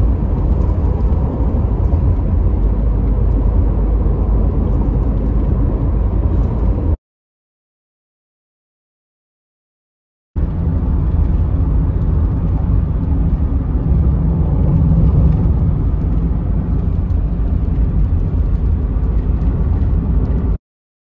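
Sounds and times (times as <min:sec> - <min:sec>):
vehicle interior road rumble: 0:00.0 - 0:07.0, 0:10.4 - 0:20.6.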